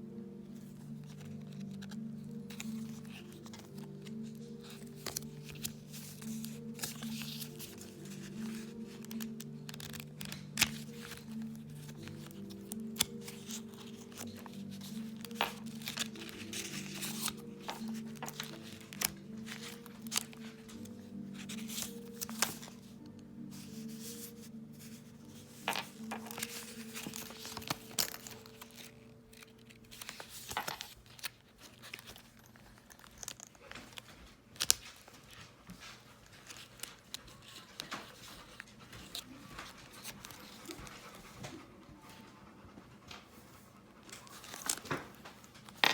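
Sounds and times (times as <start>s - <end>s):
quiet background music: 0.0s - 45.9s
paper pages rustling: 0.5s - 41.6s, 44.0s - 45.9s.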